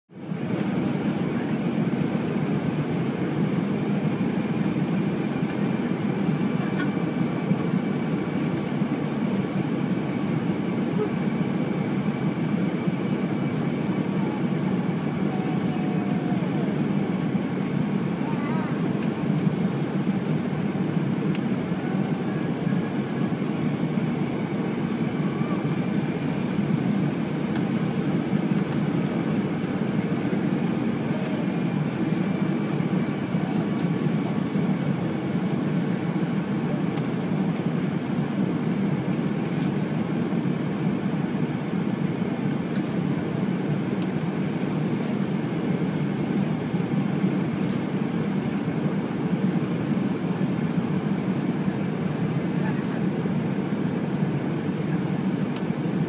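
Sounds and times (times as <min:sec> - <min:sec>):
airliner cabin noise: 0:00.2 - 0:56.0.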